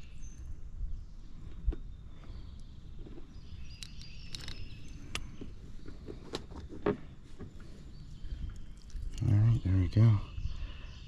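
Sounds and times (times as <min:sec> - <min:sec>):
faint bird chirps: 0:00.0 - 0:06.3, 0:07.6 - 0:11.0.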